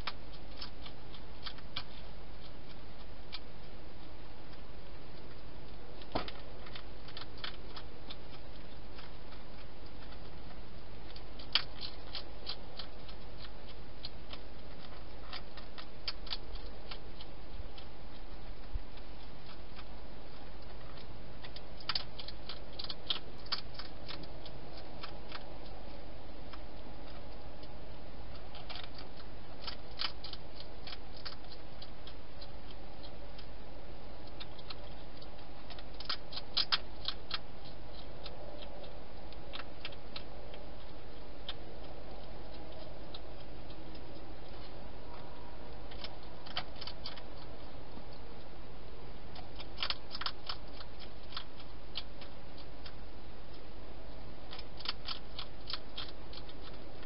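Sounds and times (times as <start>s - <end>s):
hedgehog chewing crunches: 0.0s - 57.0s.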